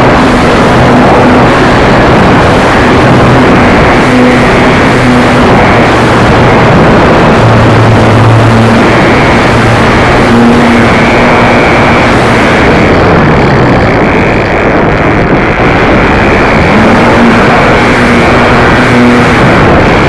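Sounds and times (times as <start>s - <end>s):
model airplane engine buzzing: 0.0s - 20.0s
rushing noise: 0.0s - 20.0s.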